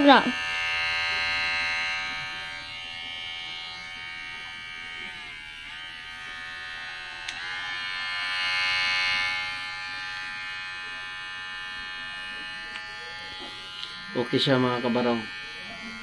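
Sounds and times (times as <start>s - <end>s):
hair clipper buzzing: 0.0s - 16.0s.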